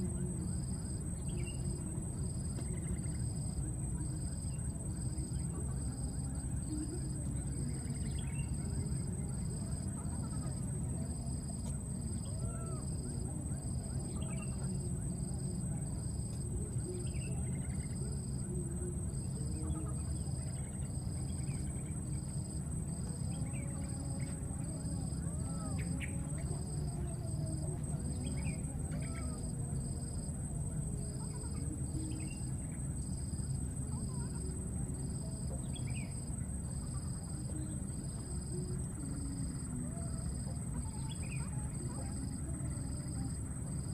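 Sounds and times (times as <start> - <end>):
cricket-like chirp: 0.0 - 43.9
high-pitched insect drone: 0.0 - 43.9.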